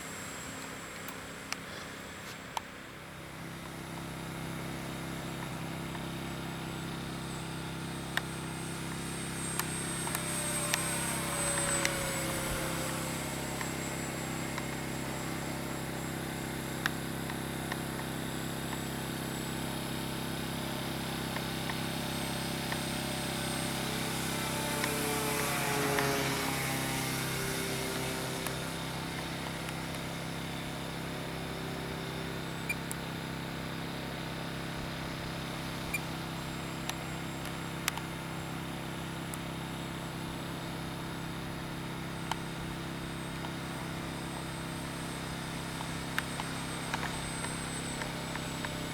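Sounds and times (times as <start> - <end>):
model plane electric motor whining: 0.0 - 48.9.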